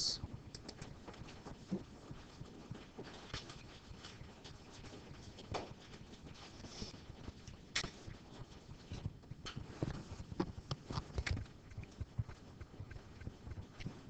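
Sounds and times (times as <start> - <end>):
low room noise: 0.0 - 14.0
faint clicks and taps: 0.4 - 6.6, 7.2 - 14.0.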